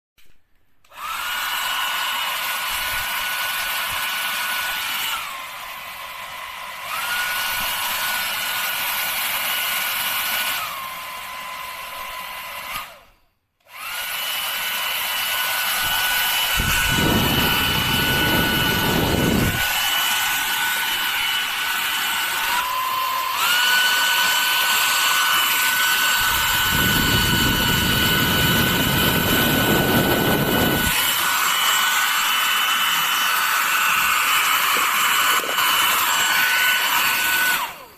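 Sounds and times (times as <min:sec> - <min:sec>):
hair dryer motor whine: 0:00.8 - 0:37.9.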